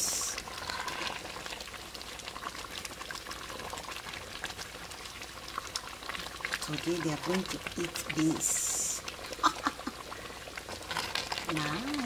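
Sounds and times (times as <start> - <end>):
pot of beans boiling: 0.0 - 12.0.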